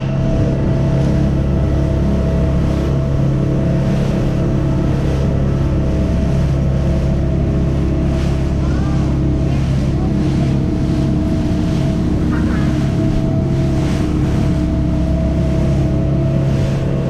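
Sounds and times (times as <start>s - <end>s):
motorboat engine droning: 0.0s - 17.0s
rushing water: 0.0s - 17.0s
wind: 0.0s - 17.0s.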